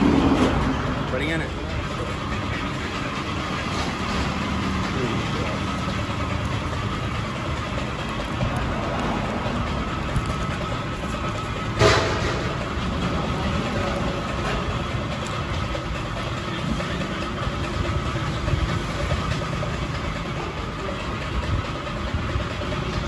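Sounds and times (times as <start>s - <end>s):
low engine-like rumble: 0.0s - 23.0s.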